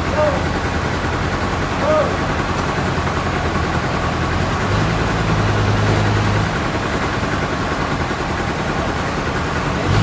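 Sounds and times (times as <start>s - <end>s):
heavy engine running: 0.0s - 10.0s
machinery noise: 0.0s - 10.0s.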